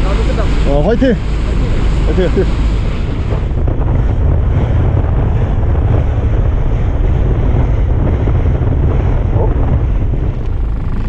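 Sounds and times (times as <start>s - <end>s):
boat engine: 0.0s - 11.0s
water washing past hull: 0.0s - 11.0s
wind rumble on microphone: 0.0s - 11.0s.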